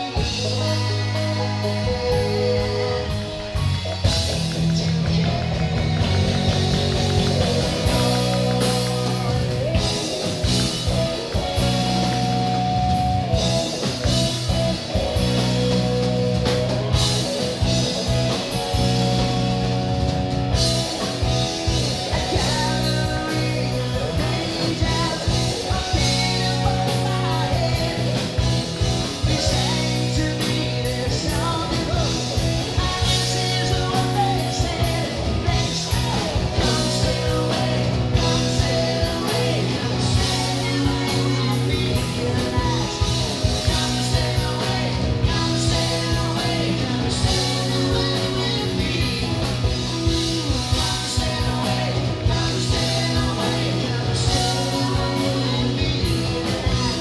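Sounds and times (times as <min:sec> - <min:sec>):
bass guitar: 0:00.0 - 0:57.0
drums: 0:00.0 - 0:57.0
electric guitar: 0:00.0 - 0:57.0
man singing lead vocals: 0:00.0 - 0:57.0.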